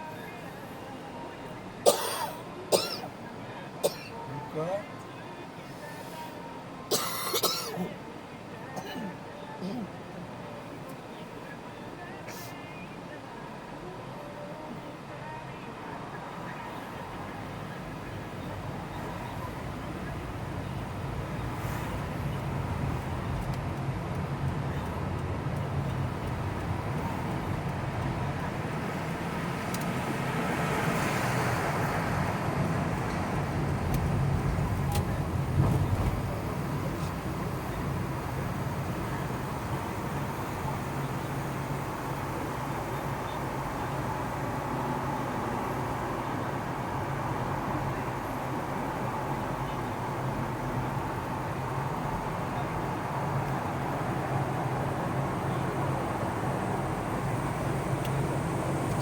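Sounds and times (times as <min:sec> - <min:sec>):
road vehicle rumble: 0:00.0 - 0:59.0.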